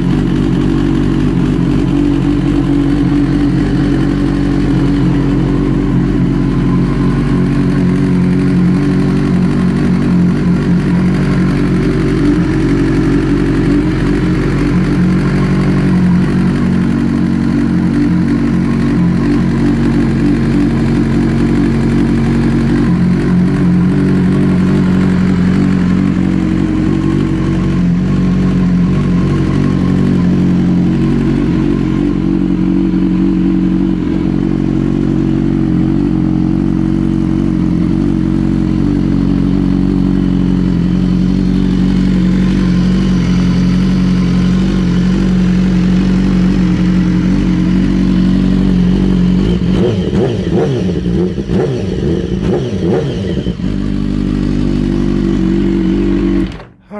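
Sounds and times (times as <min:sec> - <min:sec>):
motorcycle engine idling: 0:00.0 - 0:56.9.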